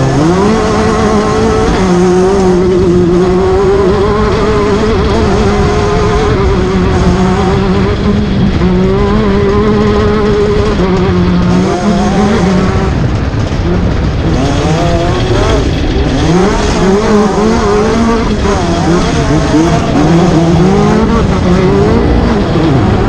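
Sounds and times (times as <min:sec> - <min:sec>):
race car engine revving: 0:00.0 - 0:23.0
steady rushing noise: 0:00.0 - 0:23.0.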